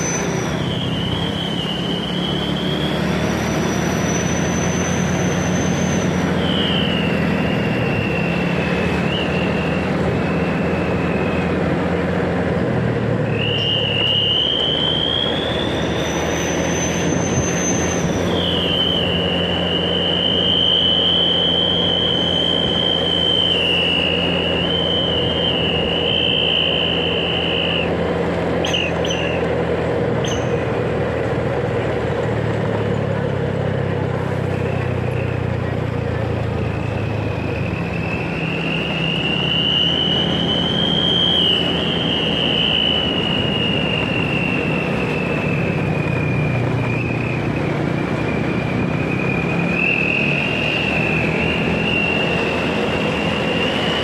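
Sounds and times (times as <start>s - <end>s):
train wheel squeal: 0.0s - 12.6s, 13.2s - 31.4s, 32.2s - 54.0s
low train rumble: 0.0s - 54.0s.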